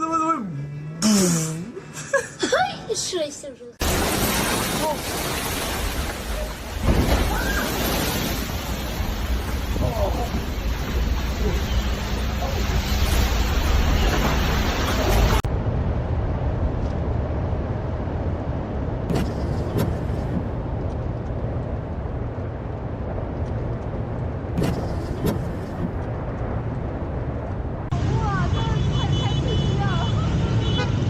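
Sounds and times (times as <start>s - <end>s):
motor vehicle rumbling: 0.0s - 2.2s, 3.8s - 31.0s.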